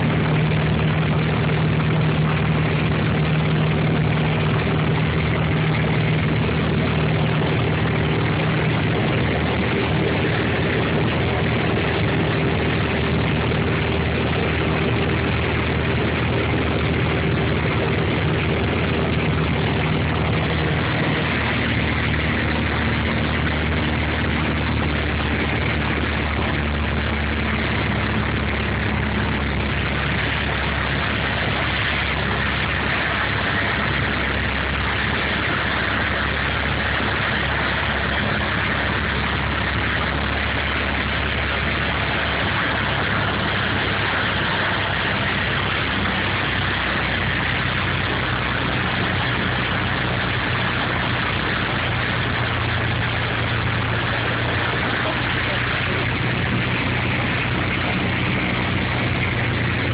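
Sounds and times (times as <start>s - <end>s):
airflow noise: 0.0s - 59.9s
light aircraft engine droning: 0.0s - 59.9s.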